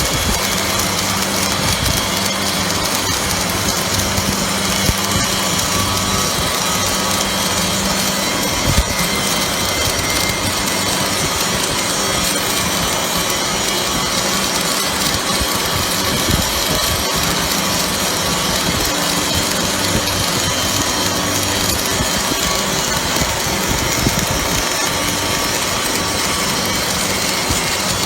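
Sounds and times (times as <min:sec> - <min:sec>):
welding arc sizzling: 0:00.0 - 0:28.0.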